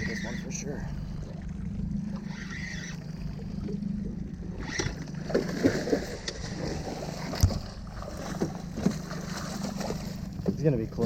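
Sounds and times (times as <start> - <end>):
boat motor idling: 0.0 - 11.0.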